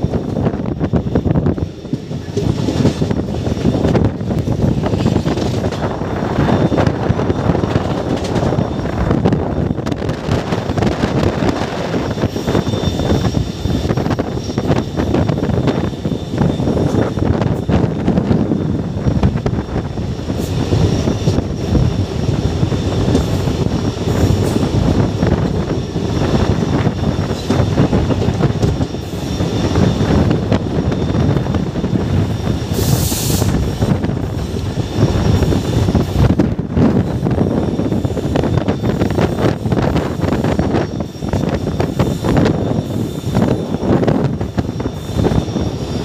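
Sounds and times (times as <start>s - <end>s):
faint high wheel whine: 0.0s - 46.0s
train wheels rumbling on rails: 0.0s - 46.0s.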